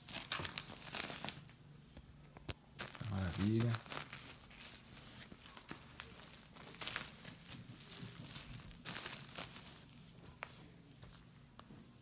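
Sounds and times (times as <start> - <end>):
plastic wrap crinkling: 0.0 - 1.5, 2.8 - 11.0.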